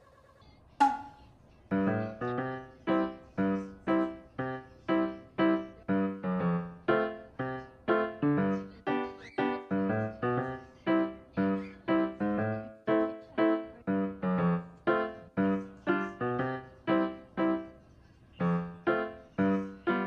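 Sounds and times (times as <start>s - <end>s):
gentle piano melody: 1.7s - 17.8s, 18.4s - 20.0s.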